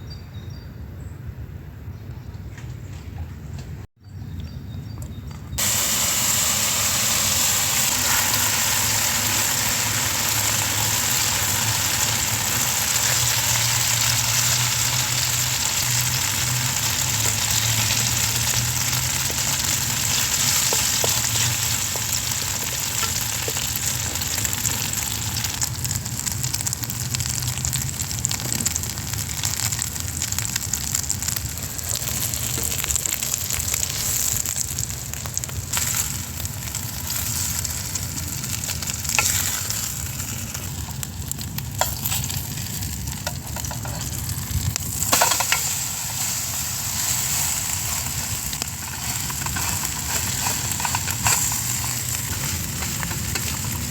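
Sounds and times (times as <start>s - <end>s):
food sizzling in hot oil: 5.6s - 53.9s.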